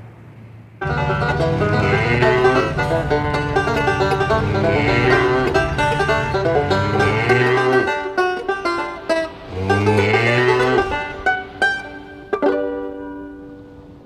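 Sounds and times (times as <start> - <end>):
bass line: 0.8 - 12.2
upbeat plucked-string music: 0.8 - 14.0.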